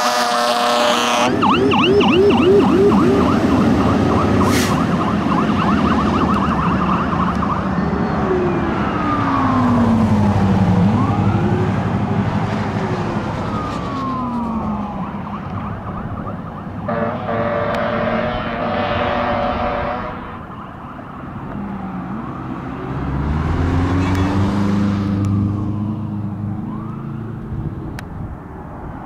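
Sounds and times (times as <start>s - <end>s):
fire engine siren: 0.0s - 28.0s.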